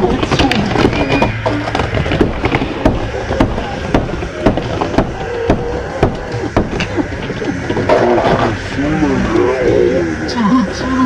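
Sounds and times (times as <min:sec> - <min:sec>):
skateboard wheels rolling on wood: 0:00.0 - 0:09.5.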